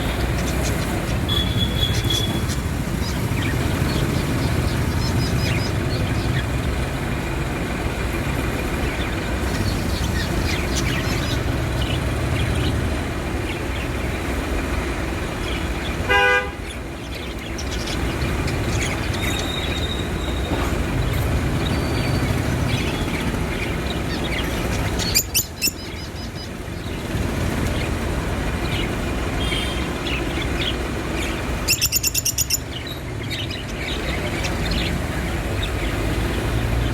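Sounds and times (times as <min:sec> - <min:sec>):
baby budgerigars chirping: 0:00.0 - 0:36.9.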